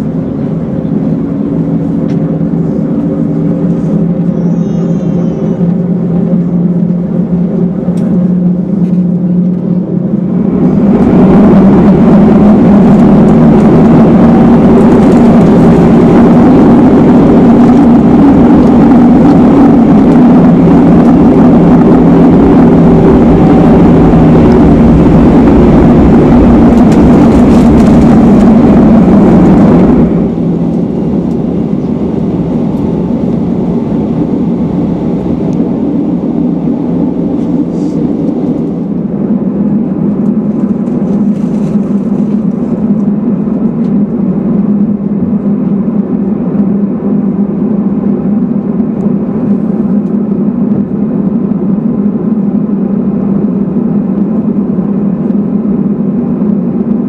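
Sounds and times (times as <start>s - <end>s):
jet engines in cabin: 0.0s - 57.0s.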